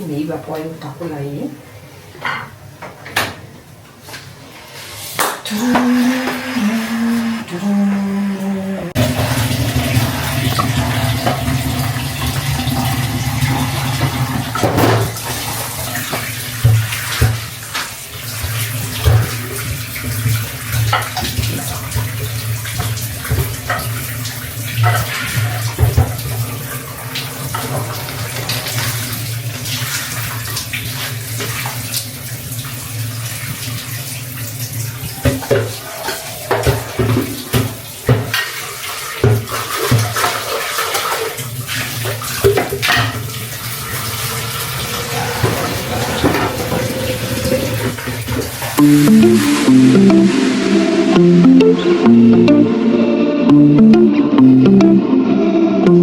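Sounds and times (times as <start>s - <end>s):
water running and splashing: 4.6s - 51.2s.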